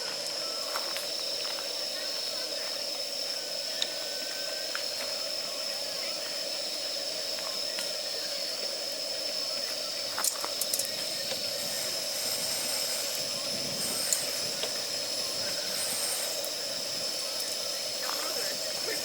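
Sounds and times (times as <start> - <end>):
wood fire hissing: 0.0 - 19.0.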